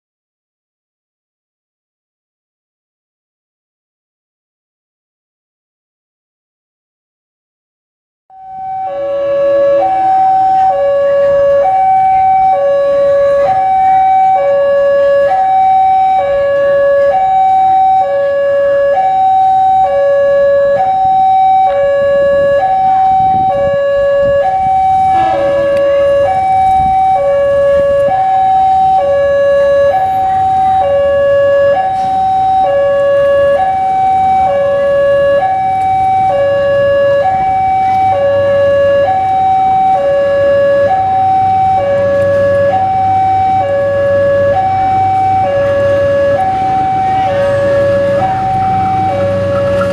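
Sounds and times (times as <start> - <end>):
two-tone electronic warning signal: 8.3 - 49.9.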